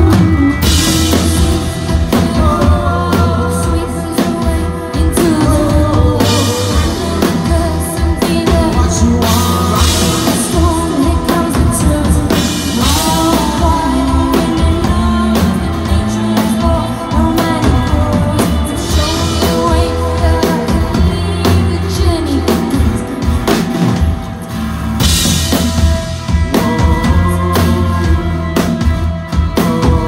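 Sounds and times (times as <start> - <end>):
bass guitar: 0.0 - 30.0
drum kit: 0.0 - 30.0
electric guitar: 0.0 - 30.0
woman singing lead: 0.0 - 30.0.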